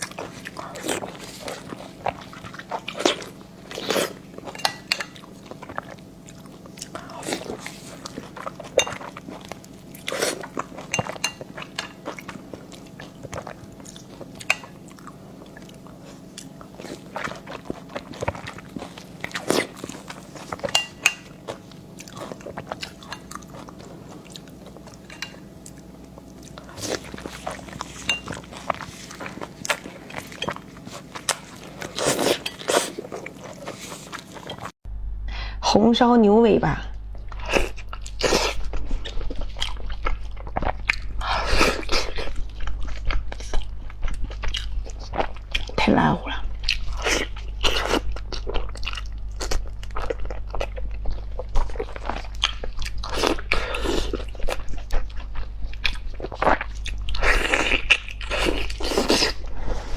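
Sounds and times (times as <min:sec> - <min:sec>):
chewing and biting: 0:00.0 - 0:34.7, 0:37.1 - 0:59.9.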